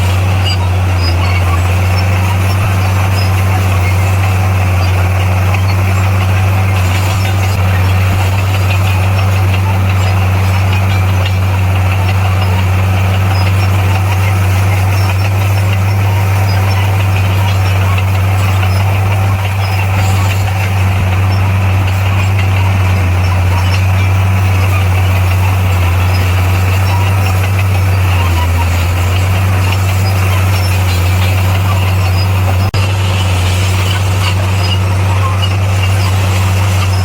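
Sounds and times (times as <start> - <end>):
bulldozer diesel engine droning: 0.0 - 37.0.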